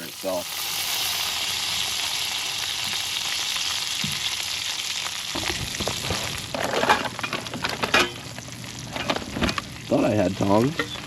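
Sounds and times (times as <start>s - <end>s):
lobster sizzling in butter: 0.0s - 11.0s.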